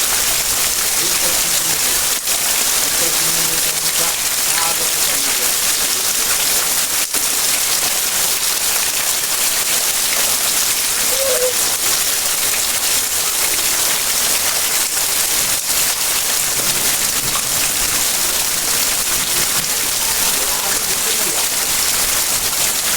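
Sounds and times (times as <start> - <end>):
heavy rain pouring: 0.0 - 22.9.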